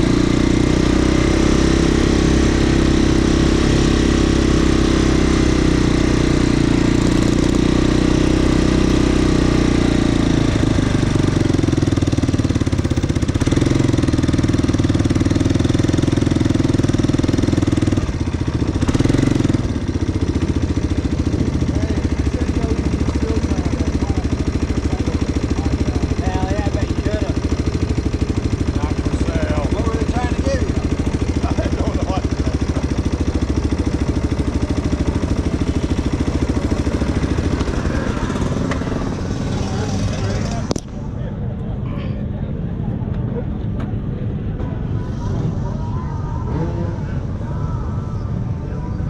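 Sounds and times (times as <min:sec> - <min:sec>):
motorcycle engine idling: 0:00.0 - 0:41.8.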